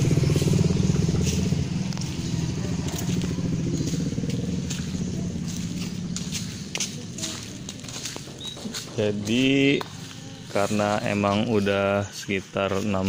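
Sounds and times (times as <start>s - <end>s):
engine running with low pulsing: 0.0s - 13.0s.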